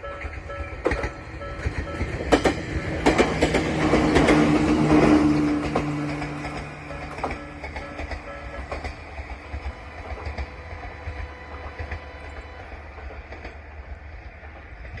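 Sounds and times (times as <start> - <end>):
train rumbling over rails: 0.0 - 15.0
wheel-on-rail clicks: 0.2 - 15.0.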